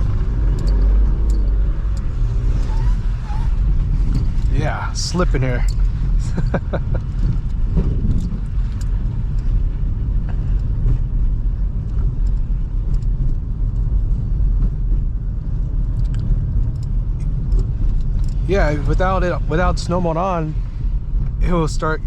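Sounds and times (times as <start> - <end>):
engine and tyres rumbling: 0.0 - 22.0.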